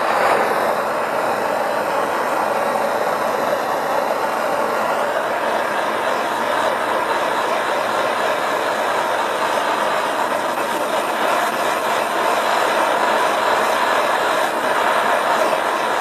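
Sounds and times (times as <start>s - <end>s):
propane torch hissing: 0.0s - 16.0s.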